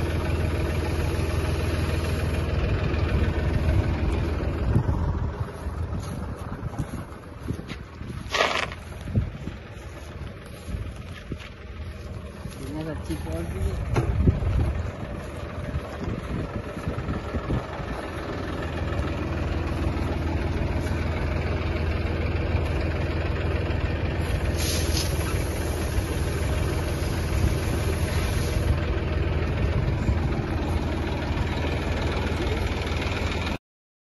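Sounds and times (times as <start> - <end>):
tractor diesel engine running: 0.0 - 33.6.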